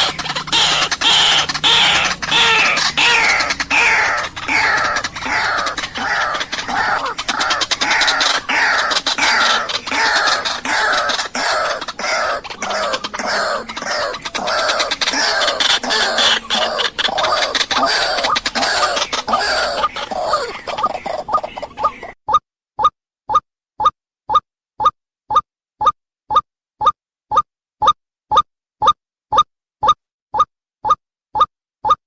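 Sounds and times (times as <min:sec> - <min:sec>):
bird calling harsh repeated notes: 0:00.0 - 0:28.0.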